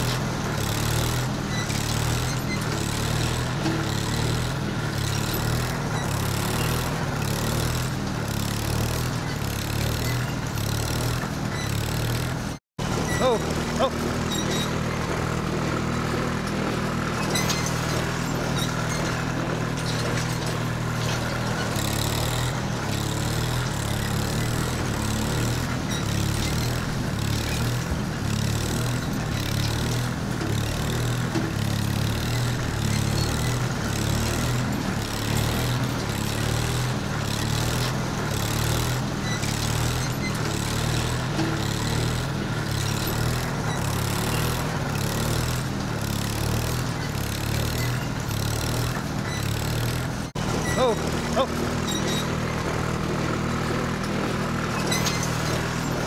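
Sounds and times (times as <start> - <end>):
heavy machinery engine drone: 0.0 - 56.0.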